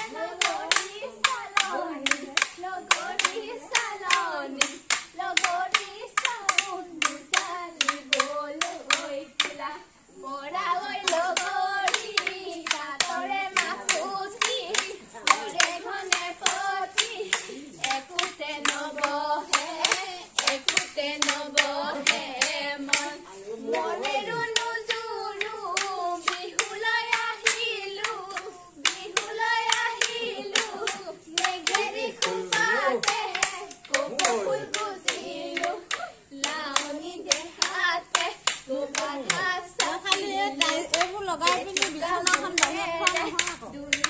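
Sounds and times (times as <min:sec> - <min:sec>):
rhythmic hand claps: 0:00.0 - 0:44.0
women and girls singing: 0:00.0 - 0:44.0.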